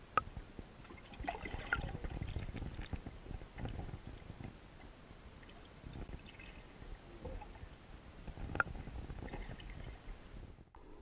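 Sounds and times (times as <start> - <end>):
underwater rumbling: 0.0 - 11.0.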